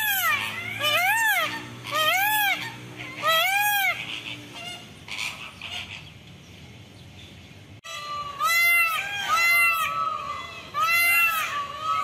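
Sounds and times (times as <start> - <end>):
peacock calling: 0.0 - 6.4, 7.8 - 12.0.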